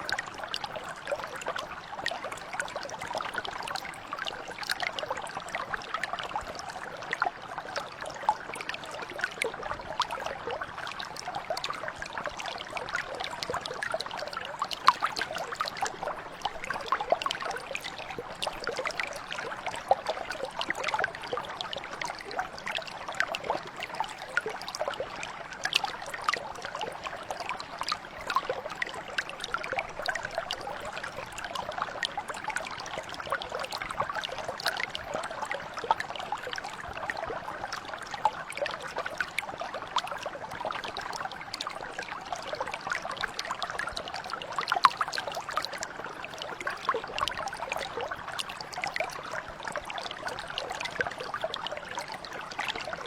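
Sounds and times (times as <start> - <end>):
stream flowing over stones: 0.0 - 53.0.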